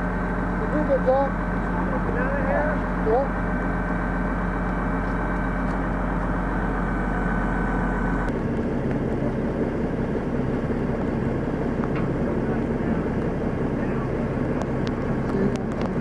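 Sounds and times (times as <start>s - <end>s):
faint held whine: 0.0s - 16.0s
truck engine running: 0.0s - 16.0s.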